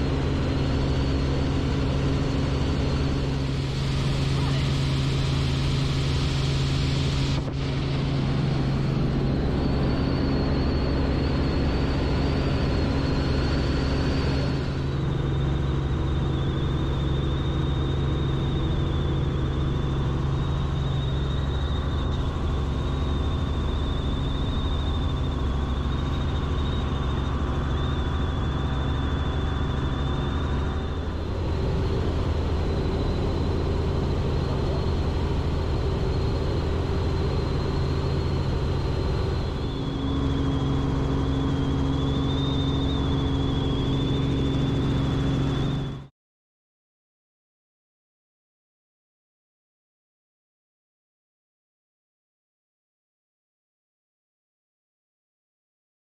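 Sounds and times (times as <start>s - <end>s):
helicopter engine and rotor drone: 0.0s - 46.1s
high turbine whine: 0.0s - 46.1s.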